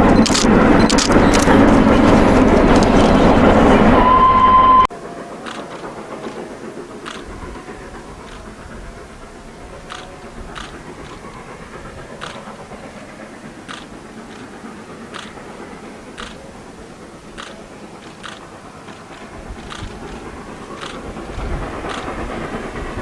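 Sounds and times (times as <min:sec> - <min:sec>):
sharp track clicks: 0:00.0 - 0:03.9, 0:05.4 - 0:23.0
train rumbling on track: 0:00.0 - 0:23.0.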